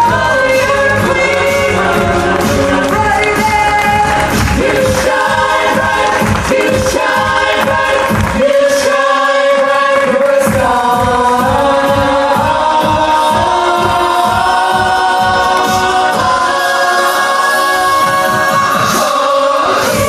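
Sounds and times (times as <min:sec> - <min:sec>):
music with steady beat: 0:00.0 - 0:20.0
vocal ensemble singing harmonies: 0:00.0 - 0:20.0.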